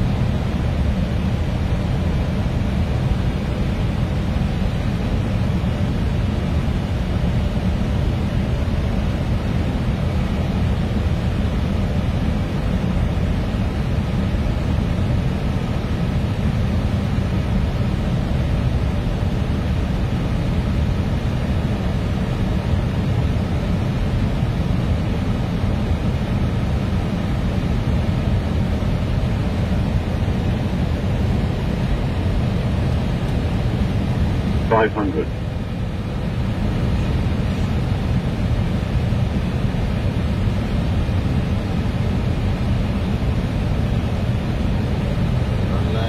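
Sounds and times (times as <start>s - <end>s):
aircraft engine noise: 0.0s - 46.0s
airflow rush in cockpit: 0.0s - 46.0s.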